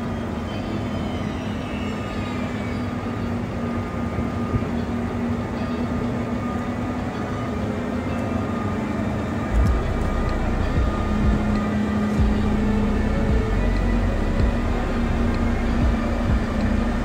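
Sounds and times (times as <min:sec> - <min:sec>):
electric locomotive humming and whining: 0:00.0 - 0:17.0.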